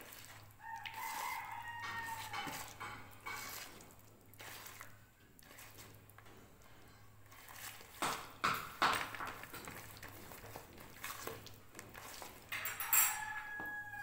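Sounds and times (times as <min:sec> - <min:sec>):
wet squishing of paste: 0:00.0 - 0:12.5.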